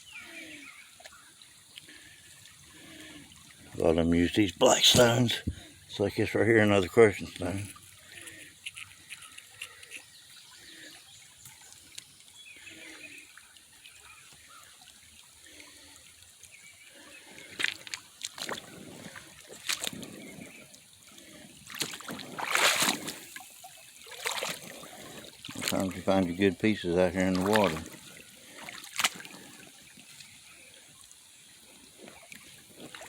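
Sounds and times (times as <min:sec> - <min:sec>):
creek water trickling: 0:00.0 - 0:33.0
water splashing: 0:00.0 - 0:33.0.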